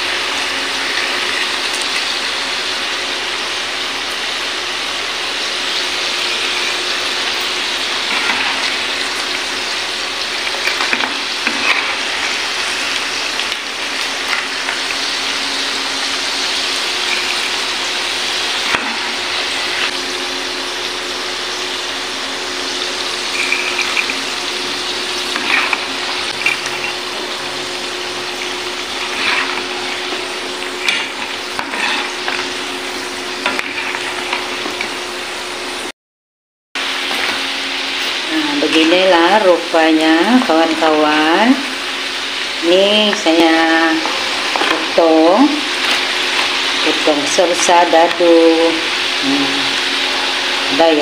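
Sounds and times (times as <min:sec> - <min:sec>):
food sizzling in hot oil: 0:00.0 - 0:35.9, 0:36.8 - 0:51.0.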